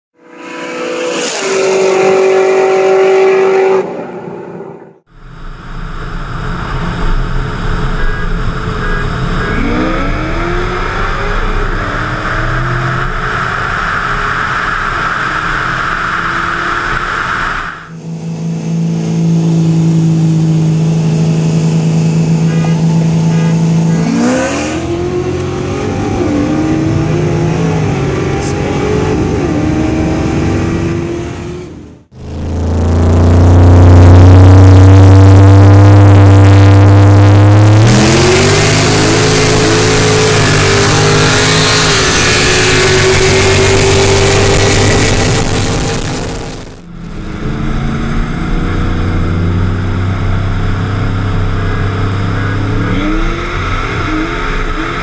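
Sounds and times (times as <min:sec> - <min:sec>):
car engine accelerating: 0:00.1 - 0:55.0
supercharger whine: 0:00.1 - 0:55.0.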